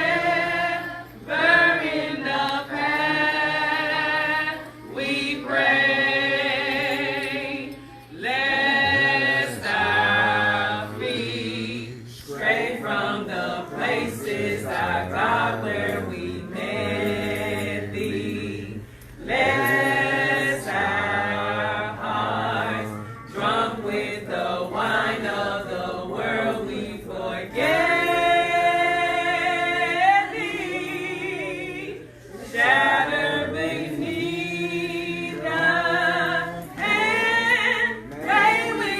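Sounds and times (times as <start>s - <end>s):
group of people singing: 0.0s - 38.9s.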